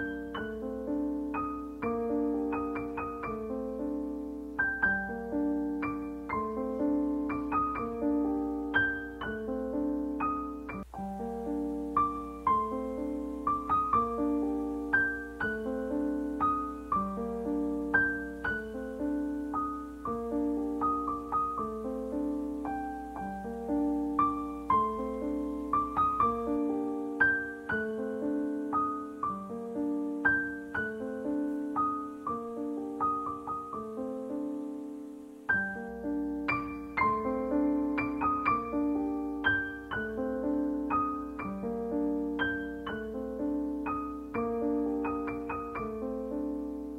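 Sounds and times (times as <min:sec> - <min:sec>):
piano music: 0:00.0 - 0:46.9.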